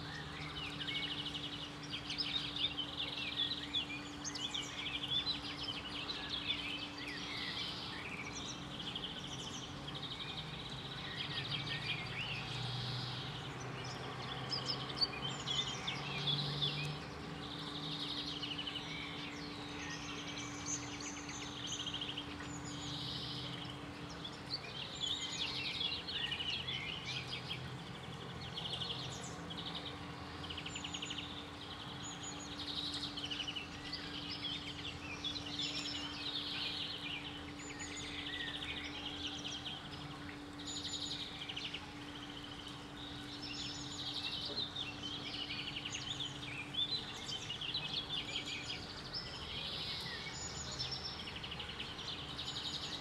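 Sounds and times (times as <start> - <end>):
songbirds chirping and singing: 0.0 - 53.0.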